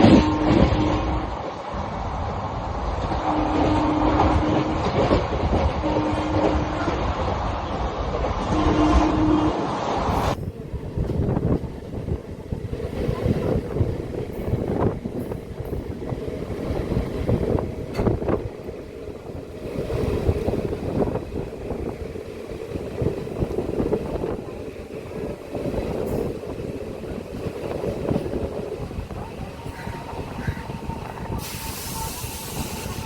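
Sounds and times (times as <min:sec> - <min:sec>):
train rumbling: 0:00.0 - 0:33.0
wind buffeting microphone: 0:00.0 - 0:33.0.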